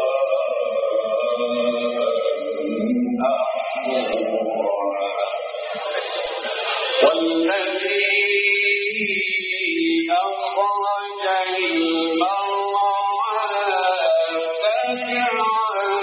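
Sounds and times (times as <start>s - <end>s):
man chanting recitation: 0.0s - 16.0s.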